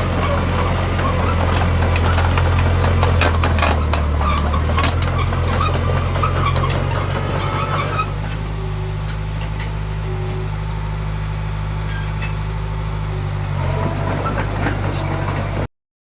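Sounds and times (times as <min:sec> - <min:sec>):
short squeaks: 0:00.0 - 0:11.0, 0:11.8 - 0:15.7
diesel engine running: 0:00.0 - 0:15.7.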